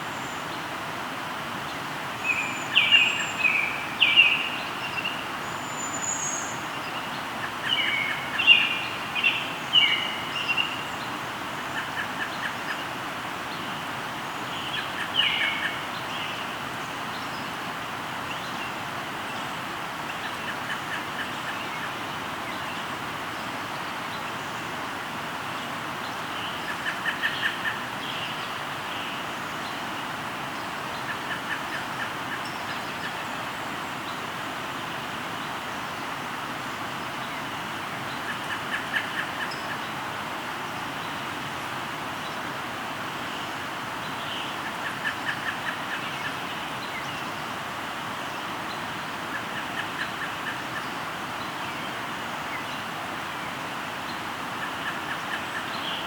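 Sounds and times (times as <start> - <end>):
river flowing: 0.0 - 56.0
birds singing: 1.6 - 56.0.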